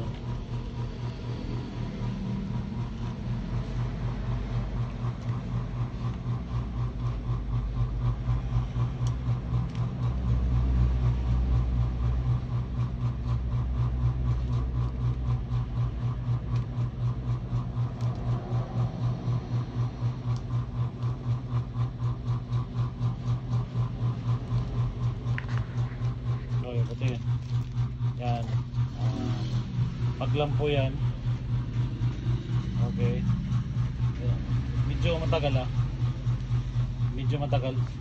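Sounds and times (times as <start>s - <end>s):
pulsing mechanical hum: 0.0s - 38.0s.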